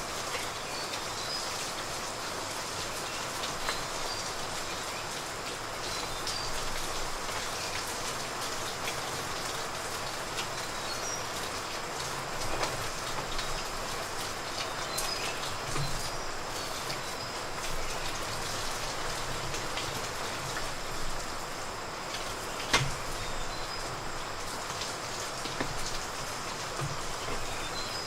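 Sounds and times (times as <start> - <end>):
falling water hiss and patter: 0.0 - 28.0.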